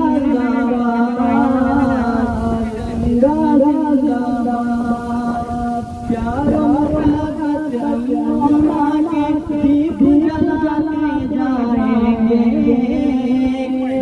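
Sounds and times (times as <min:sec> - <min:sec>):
young voices singing slow melody: 0:00.0 - 0:14.0.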